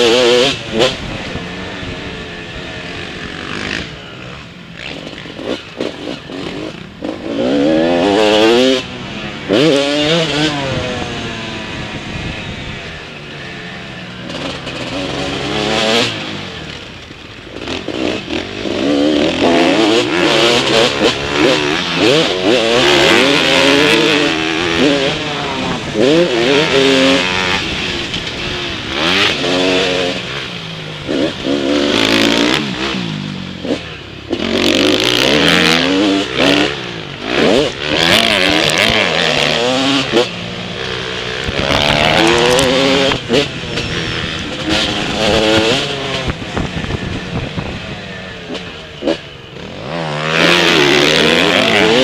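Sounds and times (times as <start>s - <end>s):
motocross bike engine revving: 0.0s - 52.0s
wind and dirt hiss: 0.0s - 52.0s.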